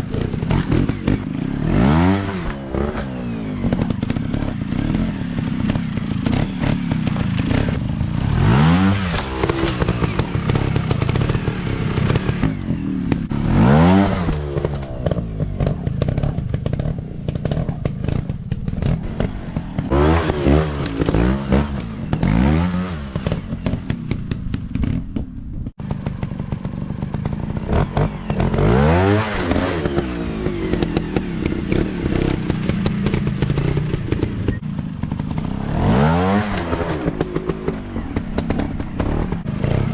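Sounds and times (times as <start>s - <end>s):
dirt bike engines revving: 0.0s - 24.8s, 25.8s - 39.9s.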